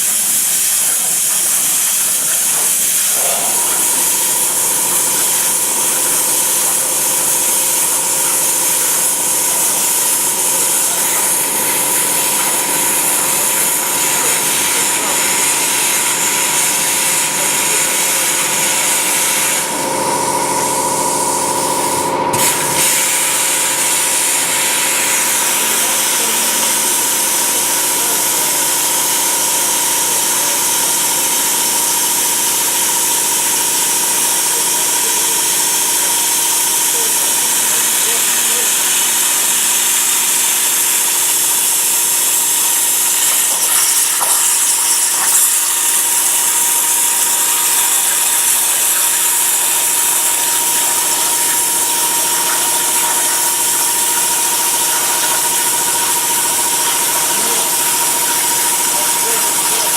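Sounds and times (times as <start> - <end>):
plasma arc hissing: 0.0 - 59.9.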